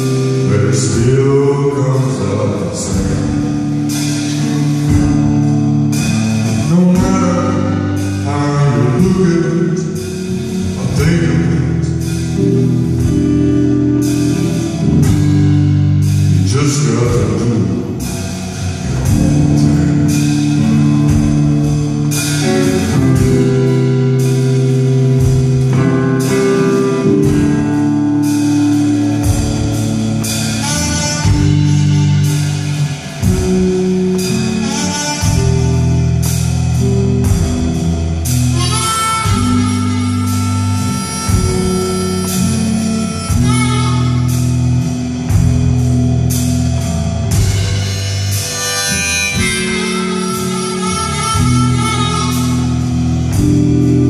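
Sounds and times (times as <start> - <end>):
electric guitar: 0.0 - 54.0
live band instrumental: 0.0 - 54.0
steady drums: 0.0 - 54.0.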